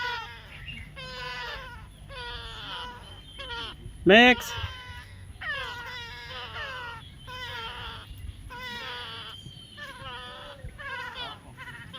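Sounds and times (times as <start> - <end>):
baby parrot crying calls: 0.0 - 11.9.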